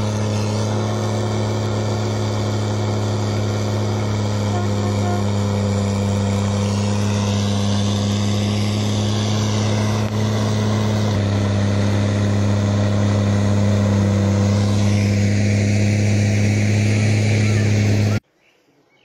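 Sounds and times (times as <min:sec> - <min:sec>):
rushing hiss of blown snow: 0:00.0 - 0:18.2
snowplow low mechanical hum: 0:00.0 - 0:18.2.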